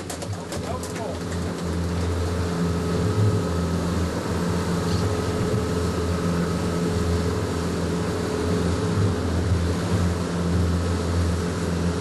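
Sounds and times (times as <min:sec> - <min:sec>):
boat engine low drone: 0:00.0 - 0:12.0.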